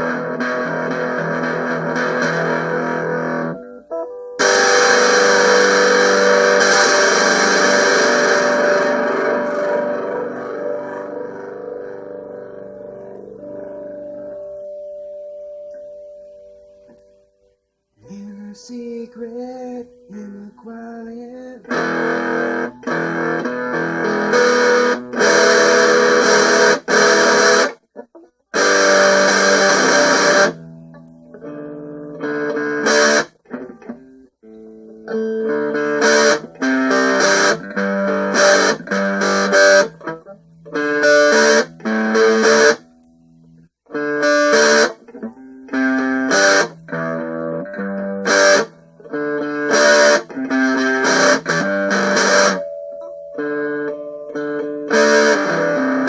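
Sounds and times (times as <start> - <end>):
guitar strumming chords: 0.0 - 56.0.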